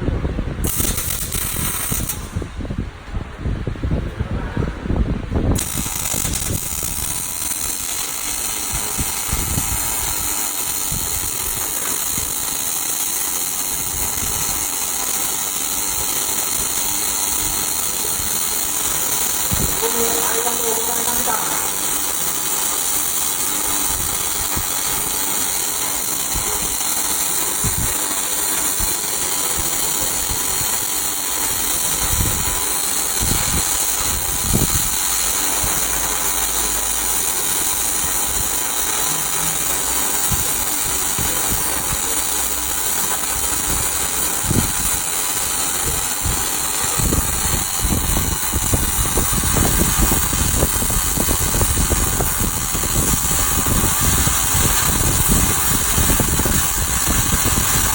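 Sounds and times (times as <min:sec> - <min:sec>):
welding arc hissing: 0:00.0 - 0:02.9, 0:05.2 - 0:57.9.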